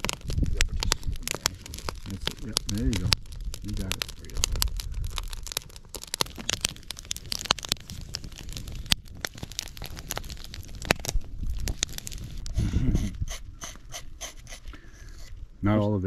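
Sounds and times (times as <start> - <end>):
low rumble: 0.0 - 13.6
wood fire crackling: 0.0 - 16.0.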